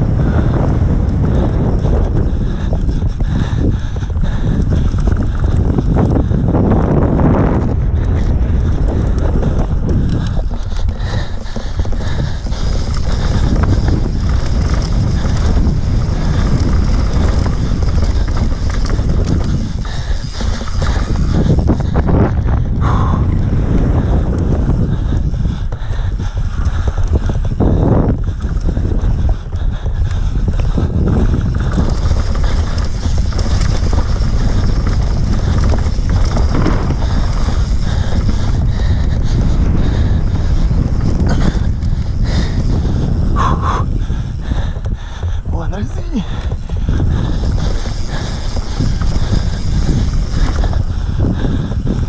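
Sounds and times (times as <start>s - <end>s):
bike rattling and knocking: 0.0s - 52.0s
wind buffeting microphone: 0.0s - 52.0s.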